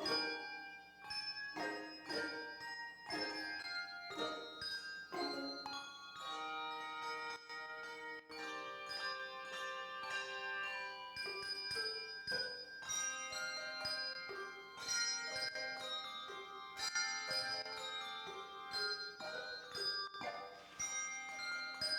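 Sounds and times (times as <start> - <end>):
handbell choir playing chords: 0.0 - 21.9.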